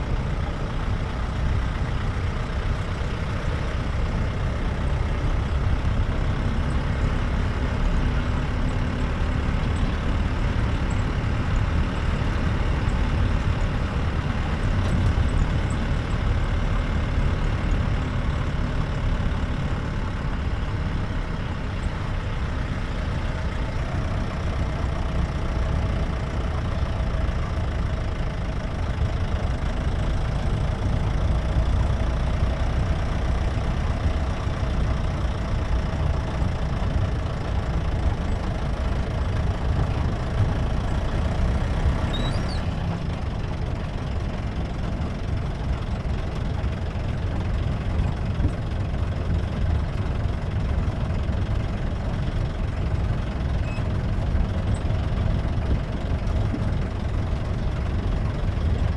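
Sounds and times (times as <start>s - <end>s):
car engine running: 0.0s - 58.9s
tyres on road: 0.0s - 58.9s.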